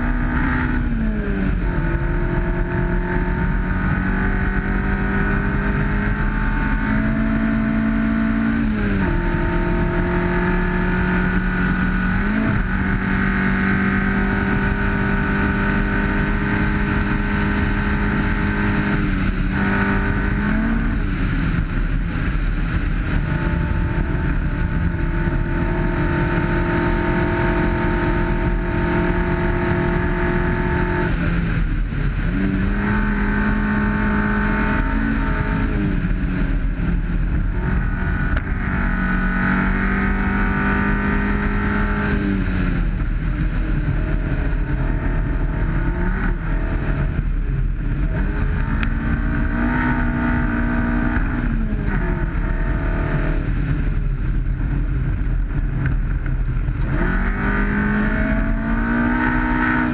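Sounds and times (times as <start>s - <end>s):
car engine revving: 0.0s - 59.9s
car rumbling on dirt road: 0.0s - 59.9s.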